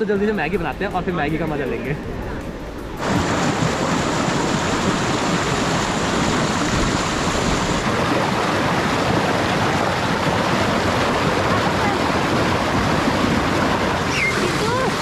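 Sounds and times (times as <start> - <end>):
stream and waterfall rushing: 0.0 - 15.0.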